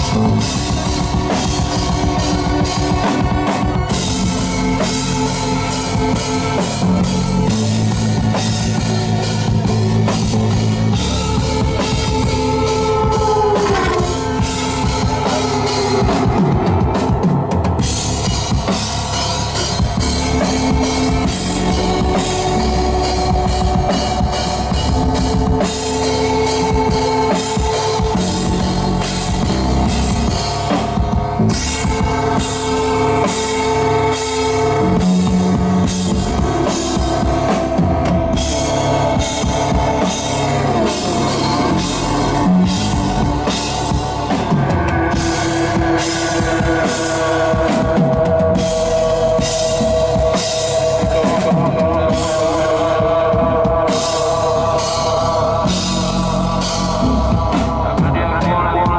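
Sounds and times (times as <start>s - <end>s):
held synth chords: 0.0s - 58.9s
rock drum beat: 0.0s - 58.9s.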